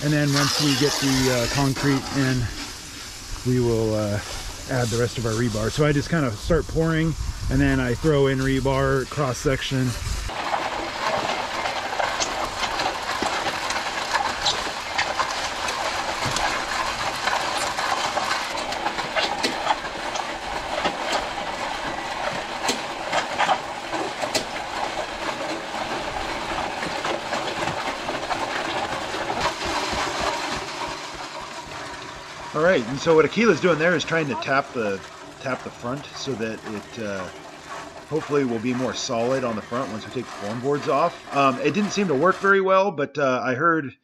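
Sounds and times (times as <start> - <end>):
concrete mixer churning: 0.0 - 42.9.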